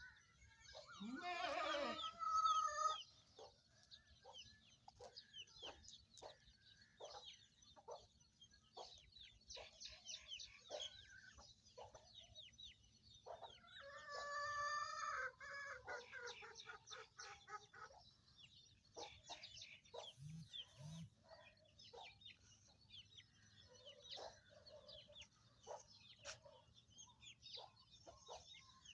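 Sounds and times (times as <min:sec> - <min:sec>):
chickens clucking: 0:02.0 - 0:28.9.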